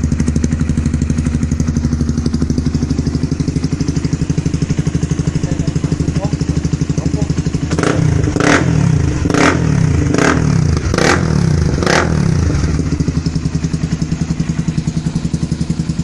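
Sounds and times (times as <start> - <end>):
motorcycle engine revving and idling: 0.0 - 16.0.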